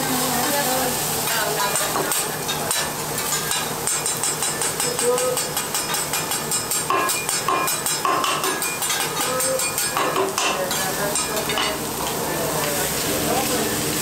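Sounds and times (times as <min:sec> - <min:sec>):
vegetables sizzling: 0:00.0 - 0:14.0.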